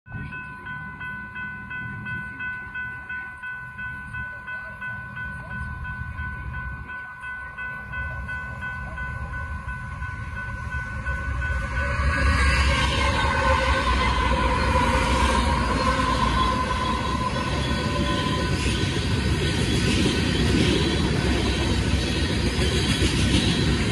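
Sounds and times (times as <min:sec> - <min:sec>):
crossing warning bell ringing: 0:00.1 - 0:23.9
low train rumble: 0:00.1 - 0:23.9.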